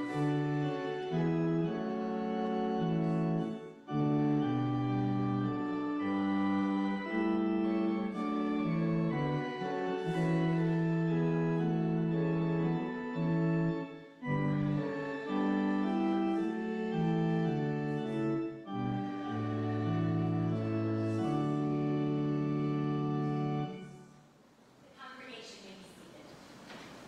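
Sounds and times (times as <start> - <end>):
organ playing slow chords: 0.0 - 24.2.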